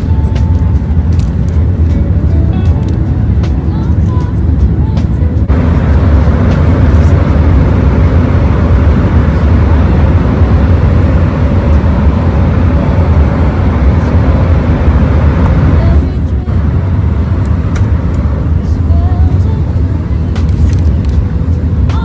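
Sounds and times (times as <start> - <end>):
road vehicle rumbling: 0.0 - 22.0.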